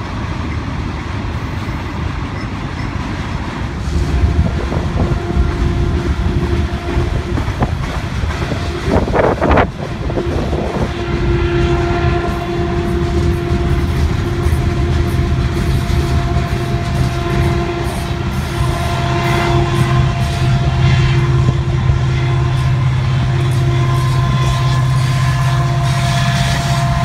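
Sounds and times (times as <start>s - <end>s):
diesel locomotive hum: 0.0s - 27.0s
train wheels clattering on rails: 0.0s - 27.0s.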